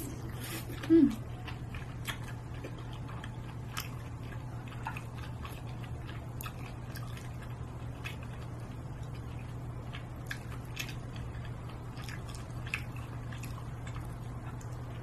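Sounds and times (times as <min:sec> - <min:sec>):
person chewing: 0:00.0 - 0:15.0
steady low hum: 0:00.0 - 0:15.0.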